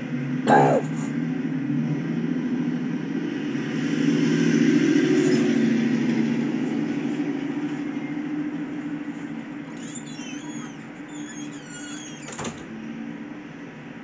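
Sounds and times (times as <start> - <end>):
vehicles passing on street: 0.0 - 14.0.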